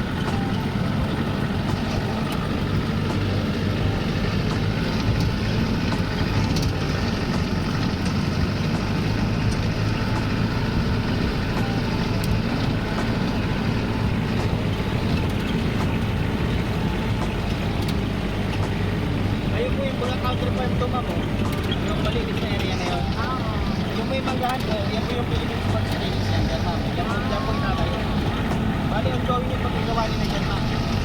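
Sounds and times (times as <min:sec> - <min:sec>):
vehicle engine hum and road noise: 0:00.0 - 0:31.0.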